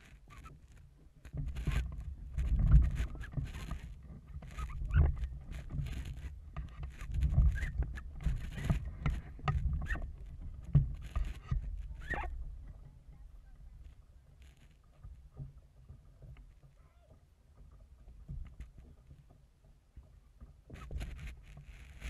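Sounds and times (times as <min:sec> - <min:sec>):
wind rumble on microphone: 0:00.0 - 0:16.1, 0:19.9 - 0:22.0
knocks and rustles from boat: 0:00.0 - 0:22.0.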